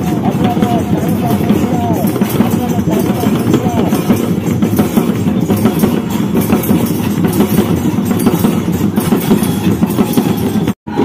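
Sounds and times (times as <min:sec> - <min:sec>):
drums playing: 0:00.0 - 0:11.0.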